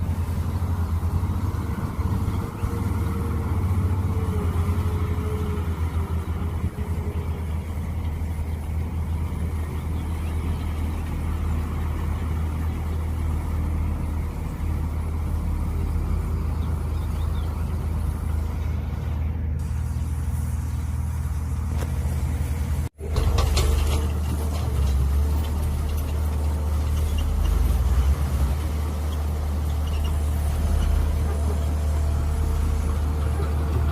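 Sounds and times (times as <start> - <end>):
excavator engine droning: 0.0 - 33.9.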